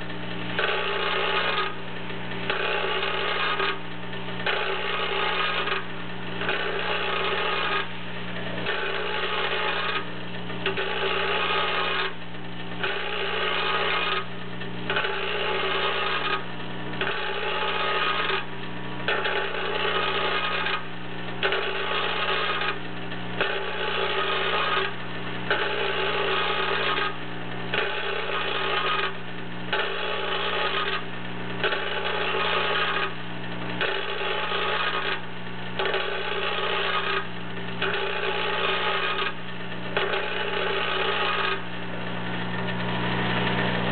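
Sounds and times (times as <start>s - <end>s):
vibratory feeder electric hum: 0.0s - 43.9s.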